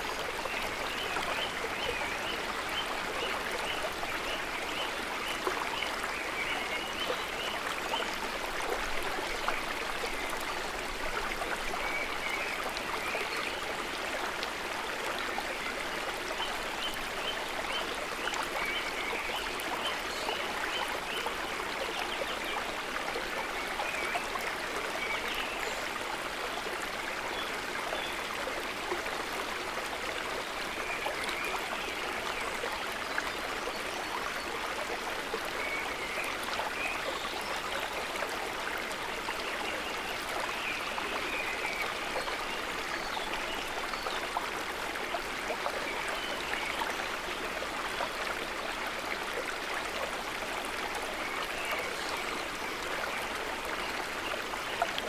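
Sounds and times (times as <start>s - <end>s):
river water over stones: 0.0s - 55.0s.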